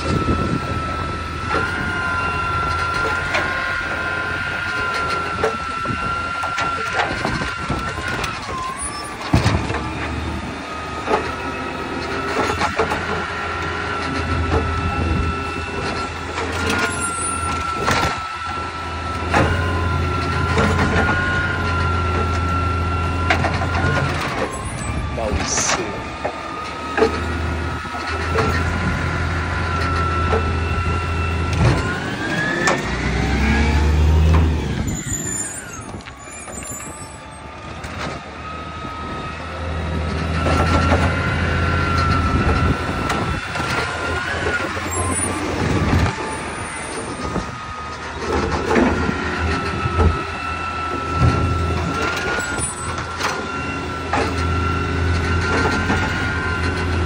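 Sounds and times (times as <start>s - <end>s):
garbage truck engine drone: 0.0s - 57.0s
hydraulic whine: 0.0s - 57.0s.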